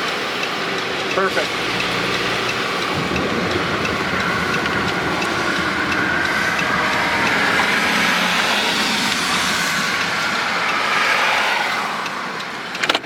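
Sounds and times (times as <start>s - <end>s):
vehicle rumble: 0.0s - 13.0s
wind through car window: 0.0s - 13.0s.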